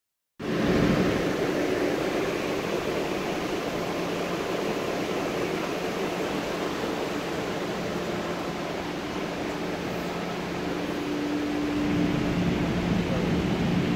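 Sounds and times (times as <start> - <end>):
faint low ventilation hum: 0.4 - 13.9
subway station rushing noise: 0.4 - 13.9.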